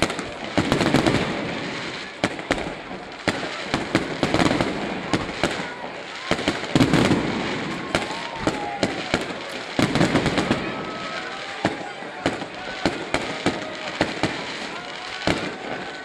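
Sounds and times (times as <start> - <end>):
firework bangs: 0.0 - 16.0
firework crackling: 0.0 - 16.0.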